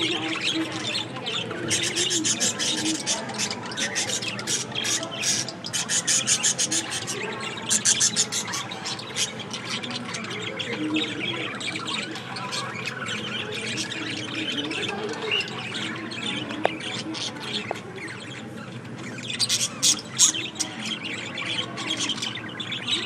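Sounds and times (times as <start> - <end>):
budgerigars chattering: 0.0 - 23.0.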